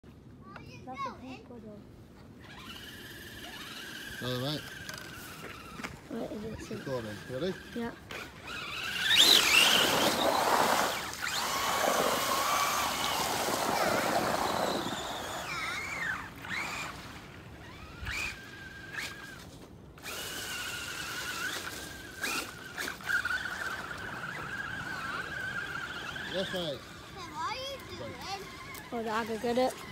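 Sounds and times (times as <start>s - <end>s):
electric motor whine: 2.4s - 29.9s.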